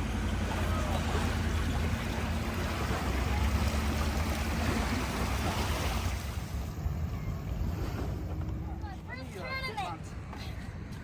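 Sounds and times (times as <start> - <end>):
boat motor idling: 0.0 - 9.6
water noise: 0.0 - 10.4
wind: 0.0 - 11.0.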